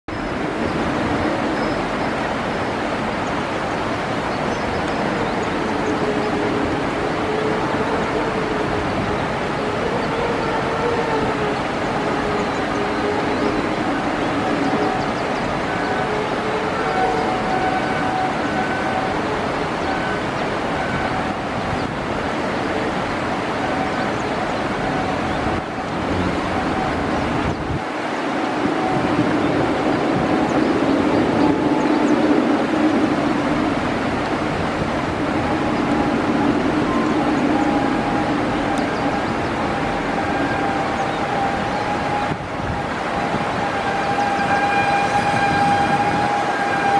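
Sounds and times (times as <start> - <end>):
river rapids: 0.1 - 46.9
train wheels rumbling on rail: 0.1 - 46.9.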